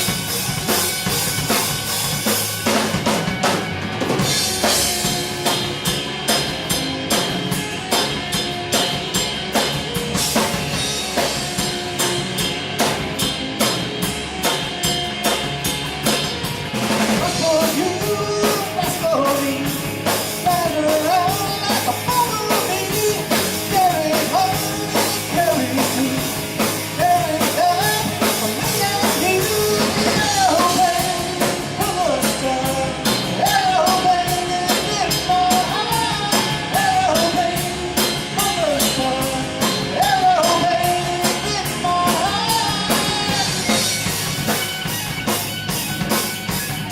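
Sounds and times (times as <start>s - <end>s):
bending lead melody: 0.0s - 46.9s
drums steady beat: 0.0s - 46.9s
live rock band playing: 0.0s - 46.9s.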